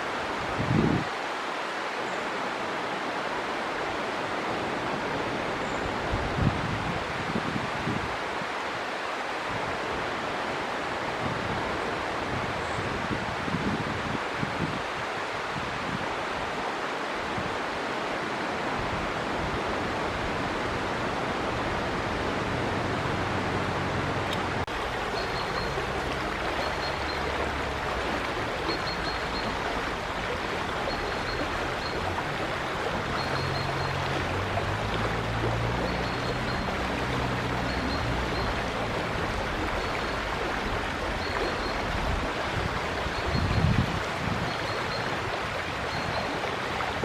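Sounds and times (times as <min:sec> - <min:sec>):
river water flowing: 0:00.0 - 0:47.0.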